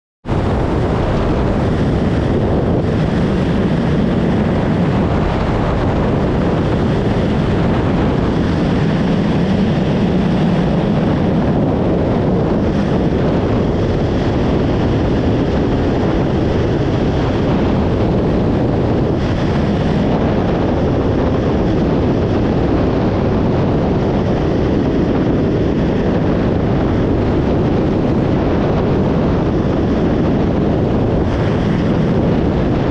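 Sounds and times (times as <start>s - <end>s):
personal watercraft engine running: 0.2s - 32.9s
wind noise on microphone: 0.2s - 32.9s.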